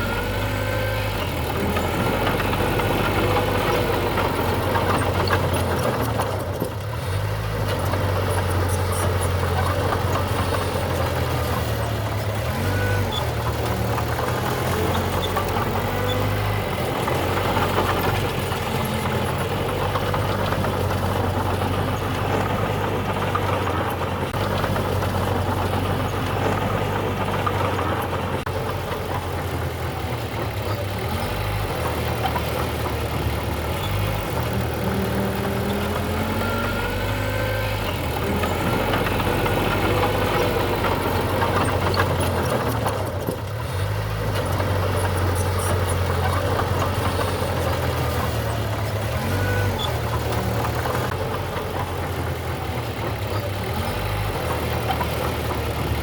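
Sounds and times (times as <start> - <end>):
construction machinery diesel engine: 0.0 - 56.0.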